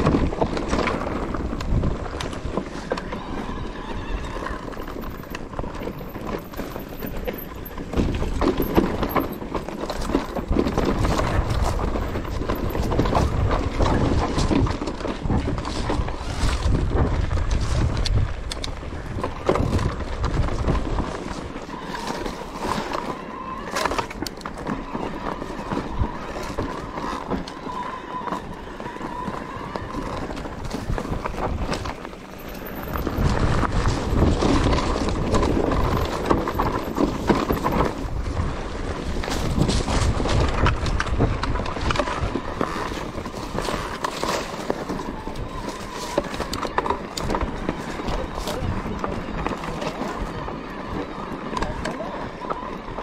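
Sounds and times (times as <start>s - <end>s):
bike rattling: 0.0s - 53.0s
wind rumbling on microphone: 0.0s - 53.0s.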